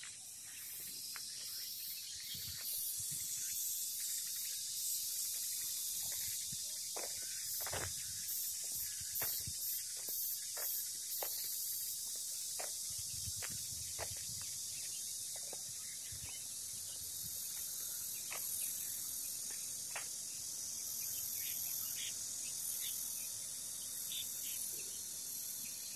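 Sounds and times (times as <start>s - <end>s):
insects buzzing: 0.0s - 25.9s
insects chirping: 0.0s - 25.9s.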